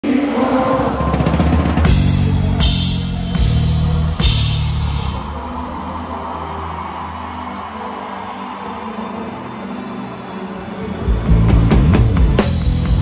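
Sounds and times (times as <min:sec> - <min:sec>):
pop band playing: 0:00.0 - 0:13.0.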